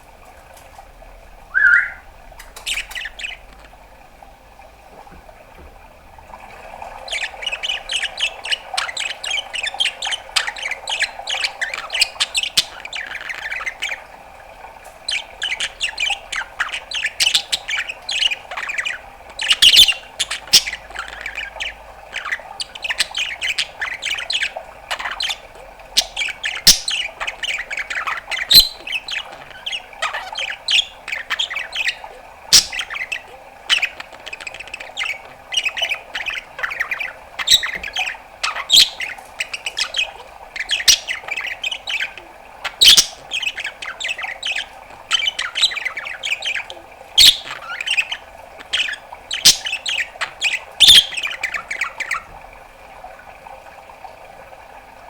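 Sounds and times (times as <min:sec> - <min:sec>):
budgerigar chattering: 0:01.5 - 0:03.7, 0:07.0 - 0:14.0, 0:15.1 - 0:52.3.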